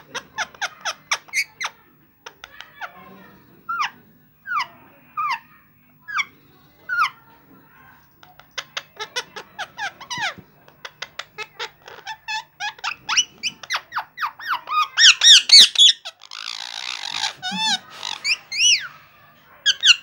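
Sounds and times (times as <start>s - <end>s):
parakeets chirping and squeaking: 0.0s - 7.3s, 8.4s - 19.0s, 19.6s - 20.0s.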